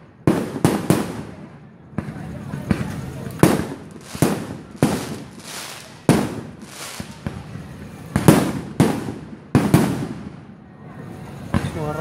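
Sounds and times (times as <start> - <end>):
fireworks bangs: 0.0 - 10.6, 11.3 - 12.0.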